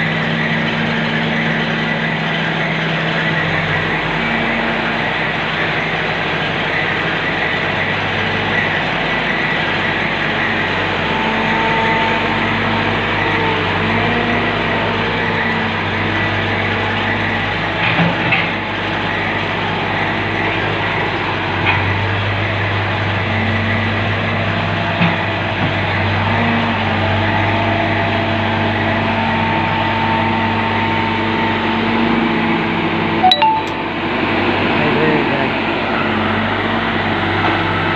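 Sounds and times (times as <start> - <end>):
excavator diesel engine under load: 0.0 - 37.9.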